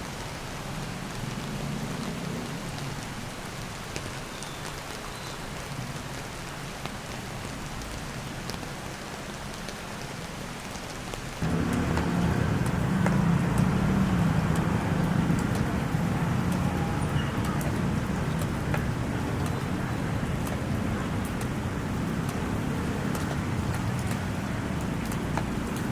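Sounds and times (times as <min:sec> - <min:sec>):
steady rain falling: 0:00.0 - 0:25.9
ticks of raindrops: 0:00.0 - 0:25.9.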